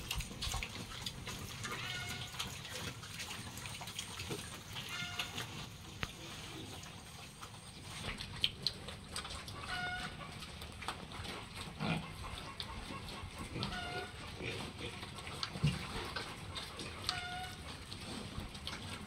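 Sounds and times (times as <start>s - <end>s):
pigs grunting and snuffling: 0.0s - 19.0s.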